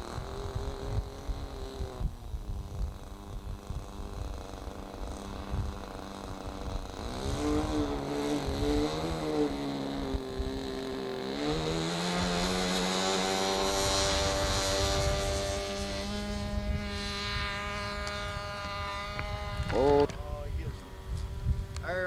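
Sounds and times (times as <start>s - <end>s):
model airplane engine: 0.0s - 22.0s
wind rumble on microphone: 0.0s - 22.0s.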